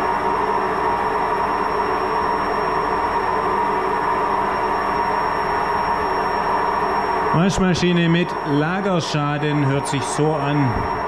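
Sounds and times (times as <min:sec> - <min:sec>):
steady whine: 0:00.0 - 0:11.0
washing machine grinding drone: 0:00.0 - 0:11.0.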